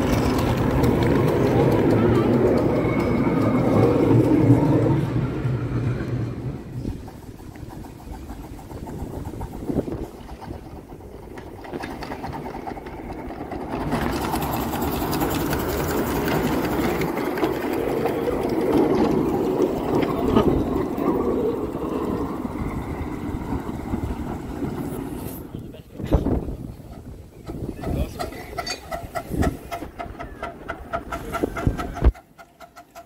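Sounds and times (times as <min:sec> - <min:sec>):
miniature train rumbling past: 0:00.0 - 0:33.0.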